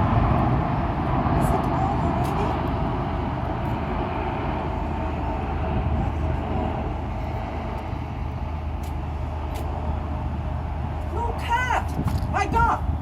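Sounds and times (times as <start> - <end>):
constant background noise: 0.0 - 13.0
low engine rumble: 0.0 - 13.0.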